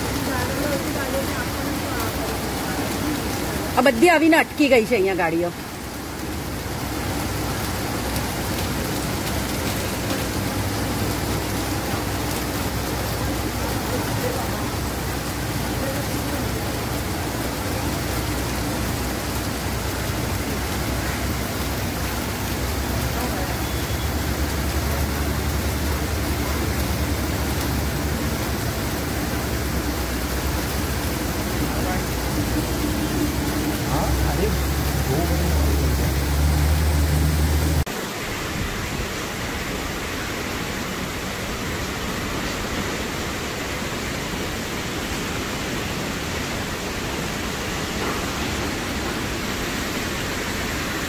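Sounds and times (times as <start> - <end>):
heavy rain falling: 0.0 - 51.0
wind: 0.0 - 51.0.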